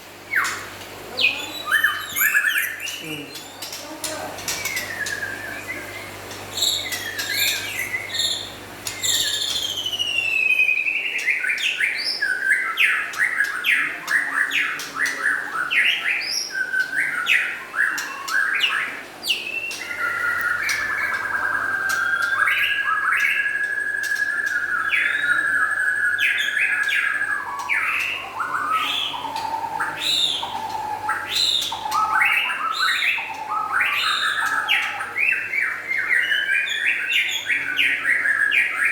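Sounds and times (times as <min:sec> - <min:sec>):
bird singing whistled notes: 0:01.2 - 0:03.1, 0:04.5 - 0:38.9.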